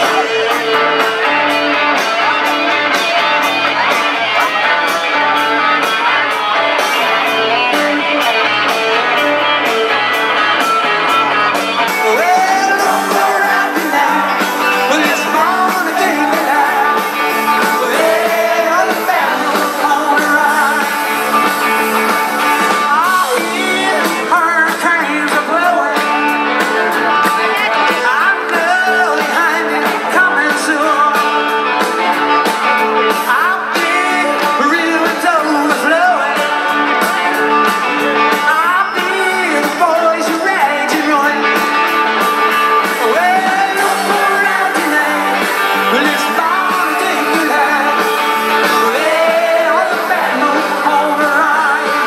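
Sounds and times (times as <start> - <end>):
live rock band: 0.0 - 52.0
person singing: 0.0 - 52.0.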